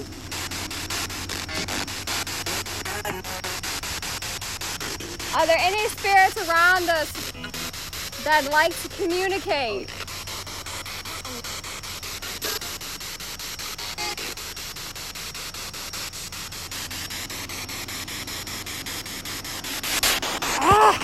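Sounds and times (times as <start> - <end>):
pulsing radio static: 0.0 - 21.0.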